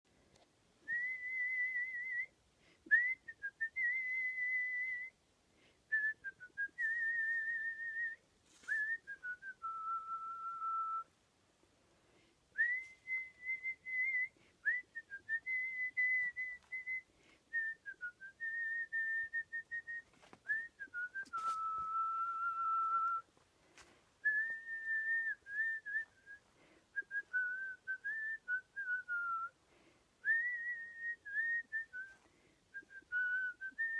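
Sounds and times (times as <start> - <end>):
person whistling a melody: 0.9 - 5.2, 5.9 - 11.1, 12.6 - 23.3, 24.2 - 29.6, 30.2 - 33.9.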